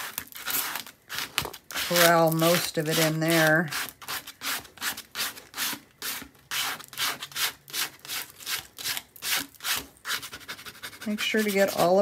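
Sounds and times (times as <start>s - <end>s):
plastic card scraping paper: 0.0s - 12.0s.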